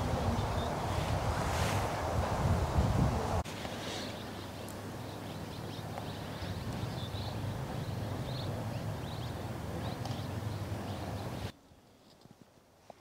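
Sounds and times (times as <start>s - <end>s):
low wind rumble: 0.0s - 11.5s.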